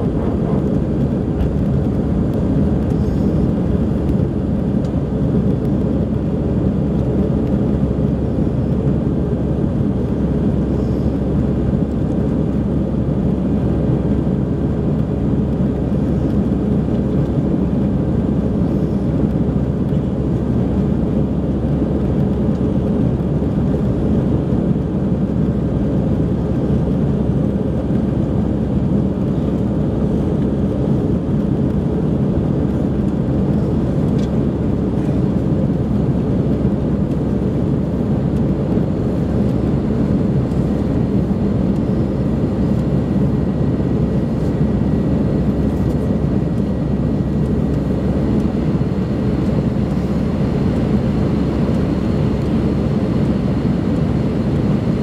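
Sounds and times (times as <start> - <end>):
airplane engines roaring: 0.0 - 55.0.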